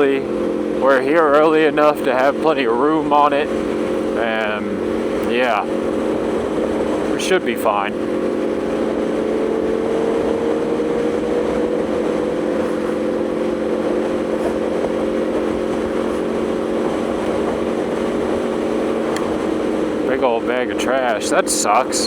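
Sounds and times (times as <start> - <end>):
motorcycle engine cruising drone: 0.0 - 22.0.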